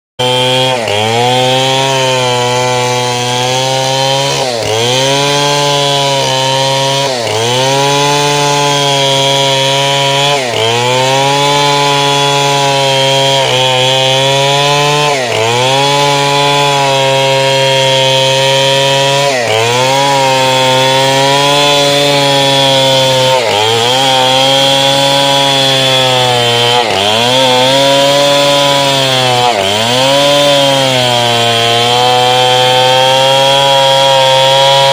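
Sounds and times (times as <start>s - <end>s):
chainsaw cutting wood: 0.2s - 34.9s.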